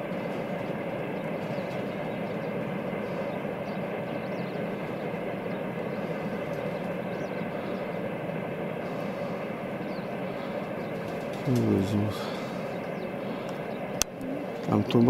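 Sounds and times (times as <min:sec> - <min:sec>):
distant freight train rumble: 0:00.0 - 0:15.0.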